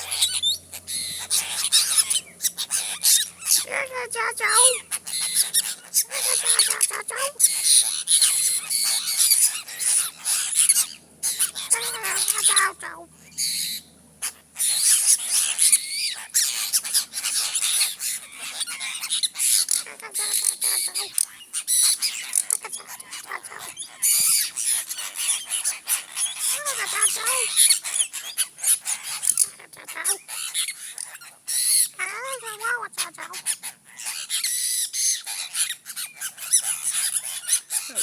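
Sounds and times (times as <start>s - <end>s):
birds chattering: 0.0s - 38.0s.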